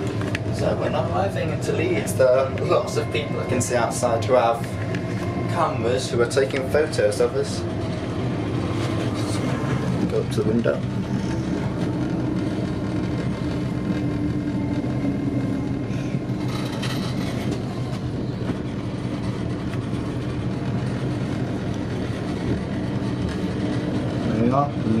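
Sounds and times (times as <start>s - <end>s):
train interior hum and rumble: 0.0s - 25.0s.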